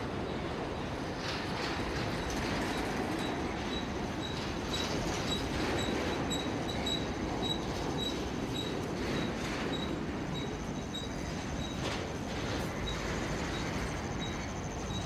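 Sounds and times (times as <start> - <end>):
train cars rumbling past: 0.0 - 15.0.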